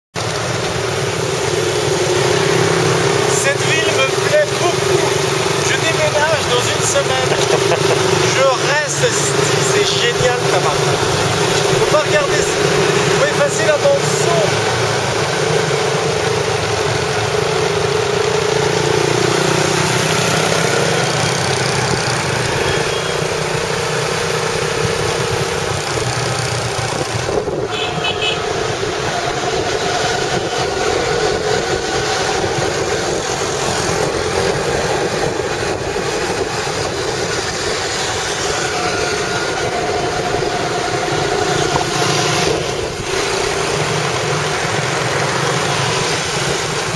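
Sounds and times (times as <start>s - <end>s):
rush of air and road noise: 0.1s - 46.9s
motorbike engine running: 0.2s - 46.9s
passing scooters and motorbikes: 0.2s - 46.9s.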